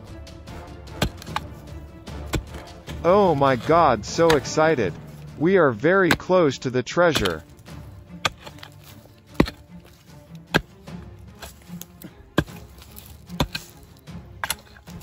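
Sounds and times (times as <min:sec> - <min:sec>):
digging tool striking stony soil: 0:00.8 - 0:15.0
earth and stones scraping: 0:00.8 - 0:15.0.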